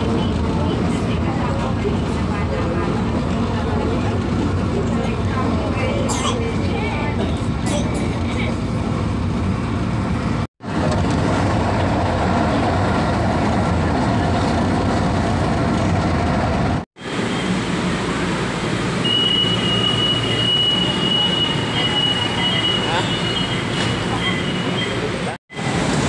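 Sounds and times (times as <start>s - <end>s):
light-rail train running noise: 0.0s - 26.0s
station platform ambience: 0.0s - 26.0s.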